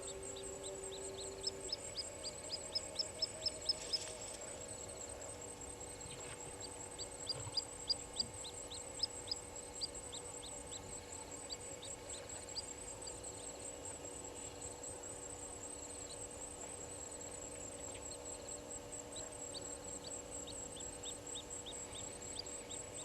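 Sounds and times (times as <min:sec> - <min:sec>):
steady high-pitched drone: 0:00.0 - 0:23.0.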